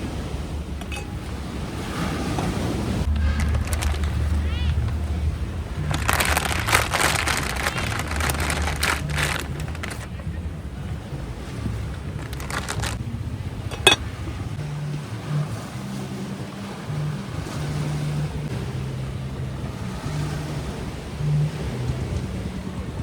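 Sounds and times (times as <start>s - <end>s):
wind buffeting microphone: 0.0s - 23.0s
low rumble: 0.4s - 23.0s.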